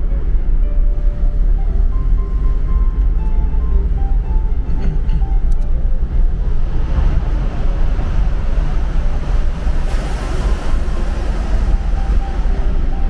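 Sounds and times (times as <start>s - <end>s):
car road rumble in tunnel: 0.0s - 13.0s.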